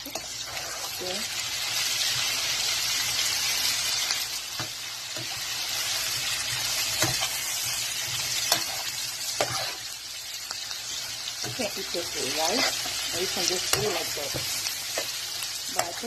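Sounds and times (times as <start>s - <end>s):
food sizzling in frying pan: 0.0s - 16.0s.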